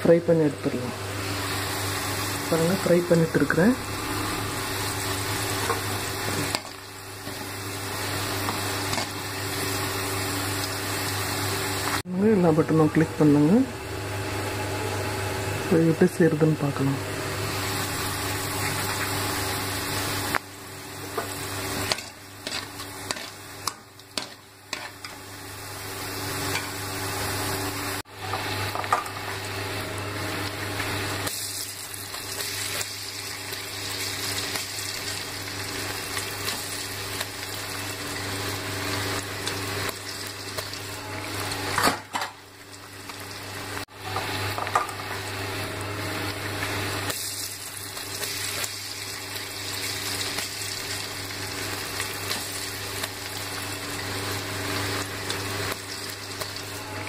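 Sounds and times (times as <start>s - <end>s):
food deep-frying in oil: 0.0s - 13.0s, 13.9s - 57.0s.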